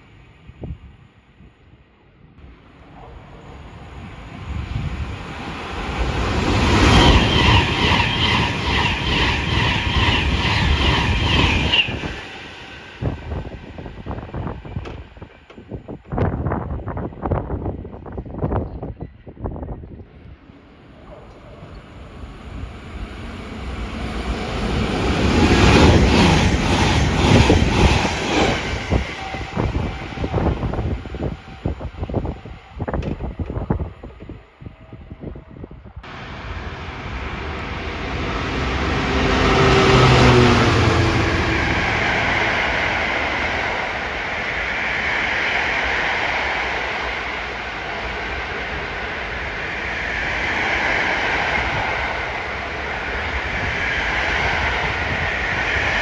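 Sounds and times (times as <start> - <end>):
train passing at speed: 0.0 - 56.0
wind on microphone: 3.0 - 20.4, 21.0 - 56.0.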